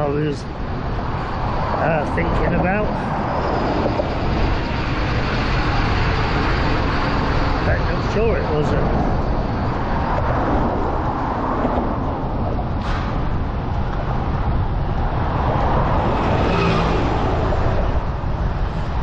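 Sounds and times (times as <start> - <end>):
road traffic rumble: 0.0 - 19.0
vehicle passing by: 1.0 - 19.0.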